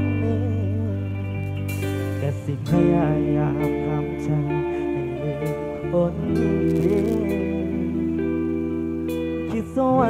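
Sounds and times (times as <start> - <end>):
band music with guitar: 0.0 - 10.0.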